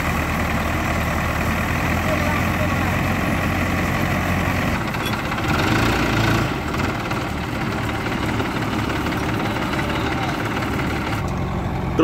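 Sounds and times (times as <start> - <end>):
backhoe loader working: 0.0 - 12.0
tractor idling: 0.0 - 12.0.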